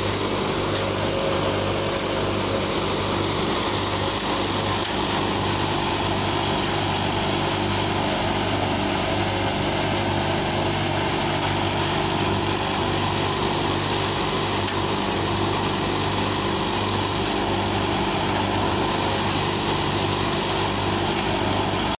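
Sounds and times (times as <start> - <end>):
thresher high whir: 0.0 - 22.0
tractor engine hum: 0.0 - 22.0.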